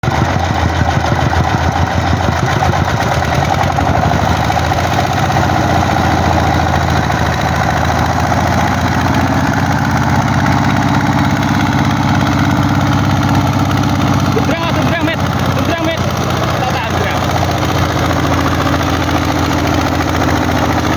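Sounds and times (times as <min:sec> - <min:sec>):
diesel engine chugging: 0:00.0 - 0:20.9.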